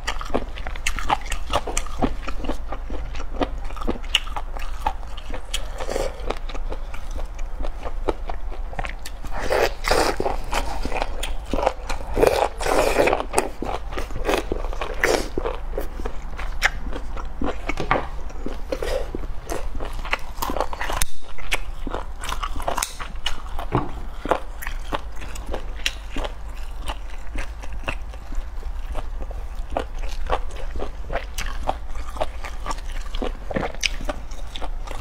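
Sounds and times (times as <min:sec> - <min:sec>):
chewing rubbery food: 0:00.0 - 0:35.0.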